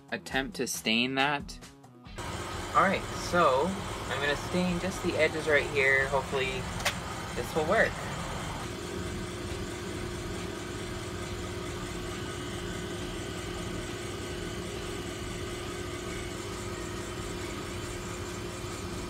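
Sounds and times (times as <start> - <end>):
steady mechanical hum: 2.2 - 19.0.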